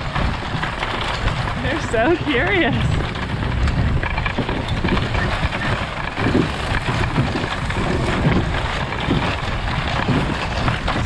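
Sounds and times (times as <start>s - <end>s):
fence drag scraping and rattling: 0.0s - 11.0s
vehicle driving rumbling: 0.0s - 11.0s.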